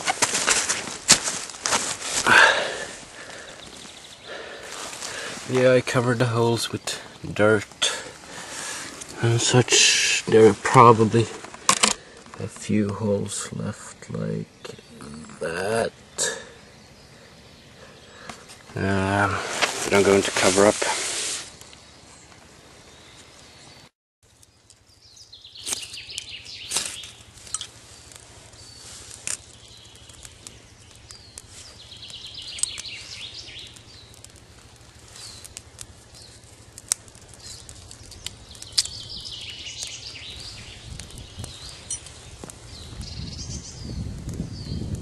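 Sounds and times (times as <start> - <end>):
dry leaves and twigs rustling: 0.0 - 12.8, 18.1 - 23.7, 24.3 - 45.0.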